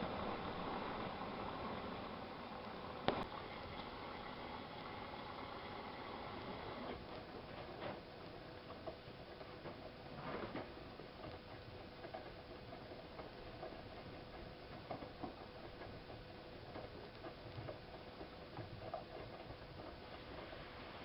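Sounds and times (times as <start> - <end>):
washing machine hum: 0.0 - 21.0.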